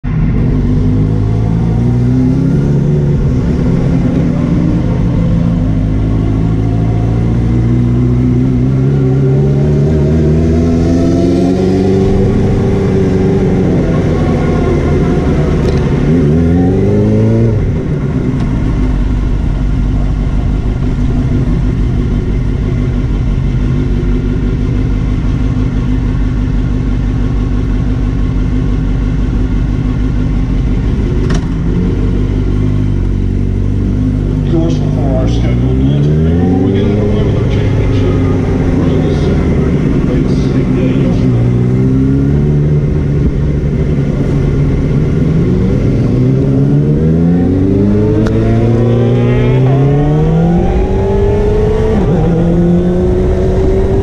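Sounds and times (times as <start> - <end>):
racing motorcycle engine revving: 0.0 - 54.0.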